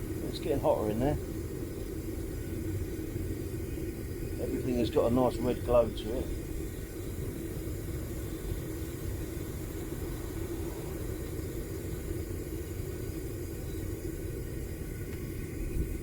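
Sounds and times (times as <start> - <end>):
propane furnace burner rumbling: 0.0 - 16.0.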